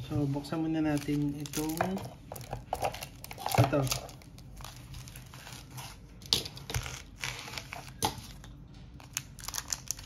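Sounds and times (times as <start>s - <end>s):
wrapper crinkling: 0.8s - 6.0s, 6.6s - 10.0s.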